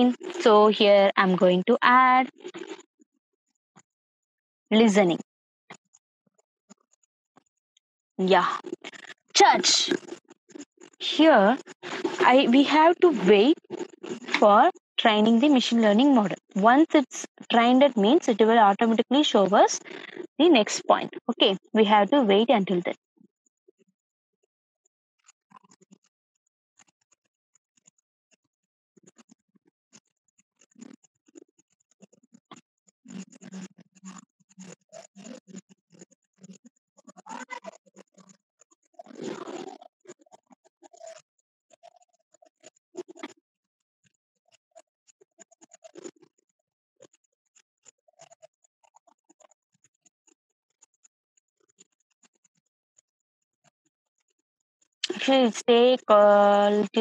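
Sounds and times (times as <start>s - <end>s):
faint scratchy clicks and rustles: 0.0s - 2.9s, 8.3s - 23.0s, 25.2s - 26.1s, 26.8s - 57.0s.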